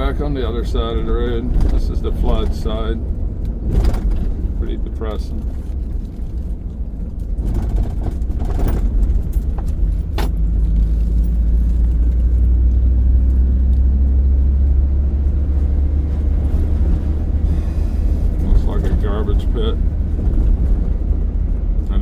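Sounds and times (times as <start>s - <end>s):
truck engine and road noise: 0.0s - 22.0s.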